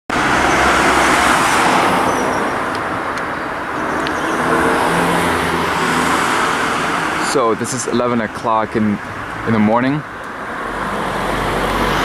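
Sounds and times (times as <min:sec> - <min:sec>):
road traffic rush: 0:00.1 - 0:12.0.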